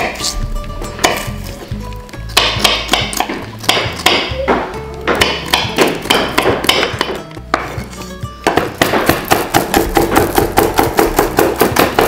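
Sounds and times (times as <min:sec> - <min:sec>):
knife chopping on wooden board: 0:00.0 - 0:00.4, 0:01.0 - 0:01.4, 0:02.3 - 0:12.0
soft background music: 0:00.0 - 0:12.0.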